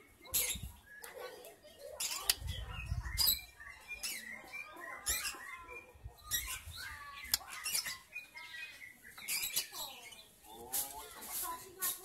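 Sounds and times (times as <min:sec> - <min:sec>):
bird high chirps: 0:00.0 - 0:12.0.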